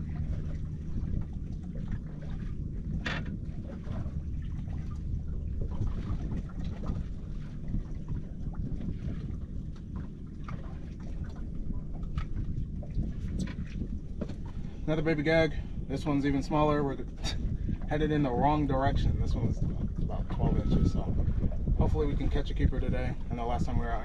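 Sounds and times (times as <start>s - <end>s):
water lapping at boat hull: 0.0s - 24.0s
wind rumbling on microphone: 0.0s - 24.0s.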